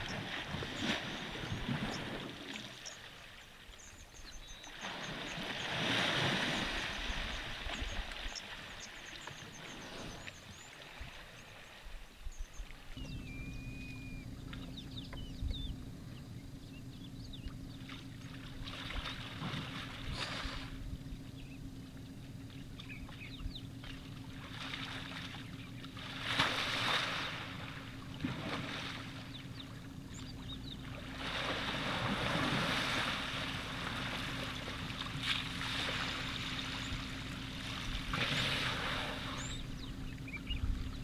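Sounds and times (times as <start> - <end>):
water sloshing and splashing: 0.0 - 3.8, 4.7 - 11.9, 17.6 - 21.0, 21.7 - 41.0
birds chirping: 0.0 - 41.0
steady low hum: 0.0 - 41.0.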